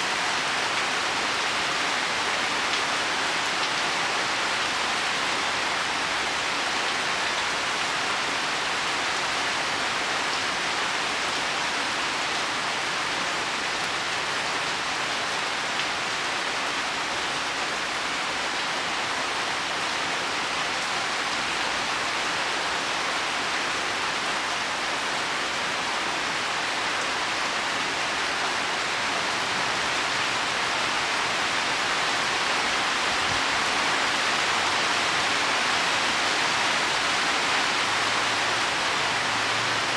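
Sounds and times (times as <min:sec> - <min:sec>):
heavy rain on leaves and soil: 0:00.0 - 0:39.9.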